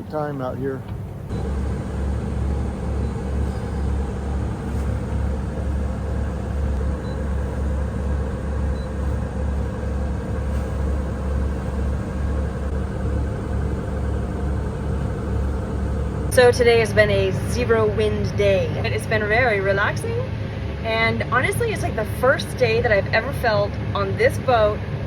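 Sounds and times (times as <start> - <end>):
boat engine throbbing drone: 0.0 - 25.0.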